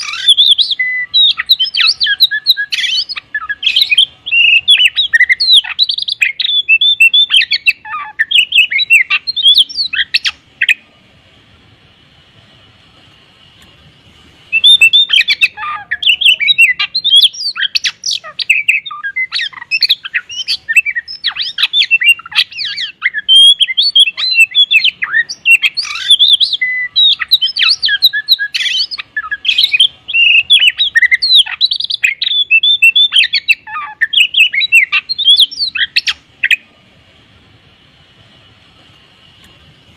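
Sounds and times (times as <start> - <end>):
bird singing varied whistles: 0.0 - 10.8, 14.5 - 36.6.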